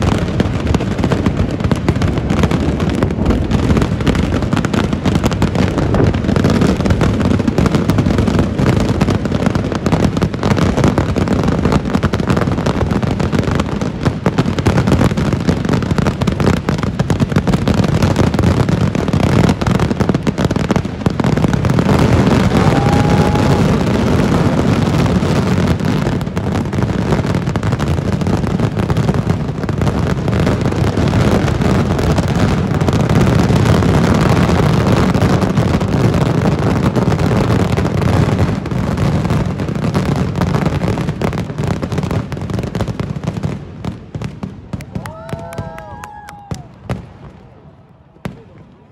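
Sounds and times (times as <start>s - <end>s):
fireworks barrage: 0.0s - 48.9s.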